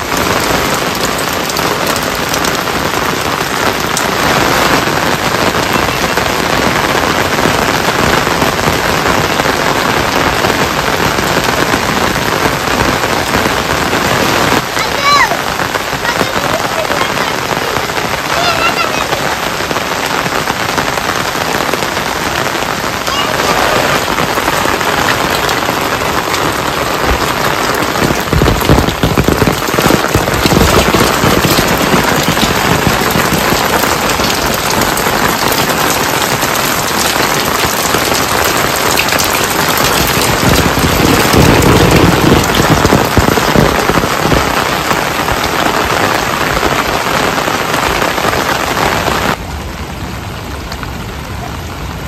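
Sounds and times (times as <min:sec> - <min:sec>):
rain patter: 0:00.0 - 0:52.0.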